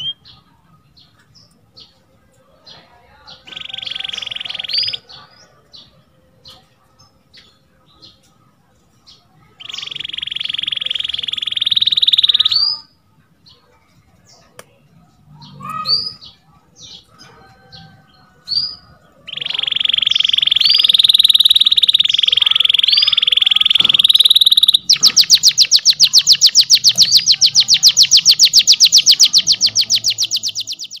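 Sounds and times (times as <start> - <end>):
canary singing and trilling: 0.0 - 31.0.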